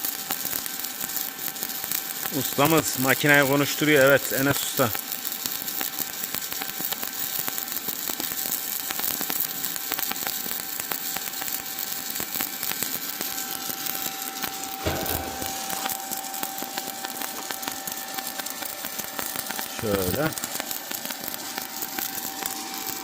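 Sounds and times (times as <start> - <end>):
welding arc frying crackle: 0.0 - 23.0.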